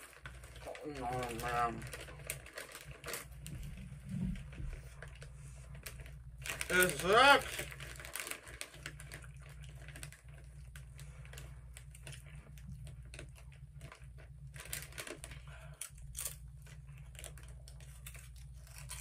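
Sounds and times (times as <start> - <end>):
chips crunching while chewed: 0.0 - 3.5, 5.9 - 19.0
chip bag crinkling: 0.0 - 19.0.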